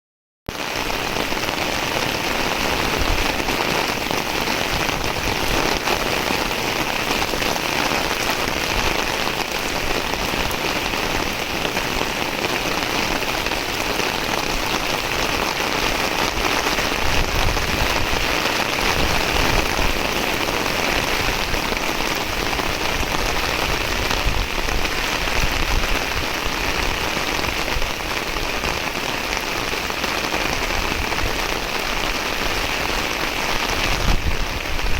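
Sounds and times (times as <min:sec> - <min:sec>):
heavy rain pouring: 0:00.5 - 0:34.9.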